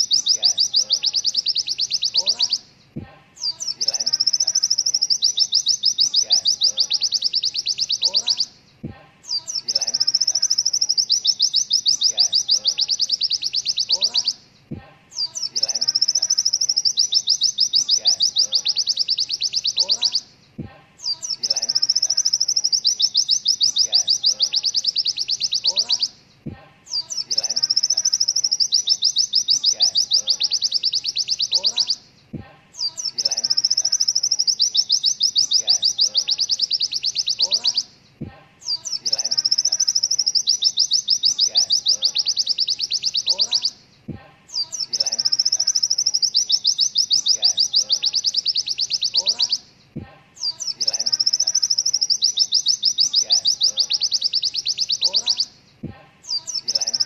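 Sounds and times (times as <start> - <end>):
bird singing a rapid trill: 0.0 - 57.0.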